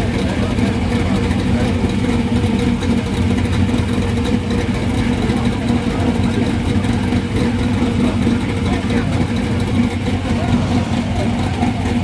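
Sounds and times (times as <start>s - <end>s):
pickup truck engine idling: 0.0s - 12.0s.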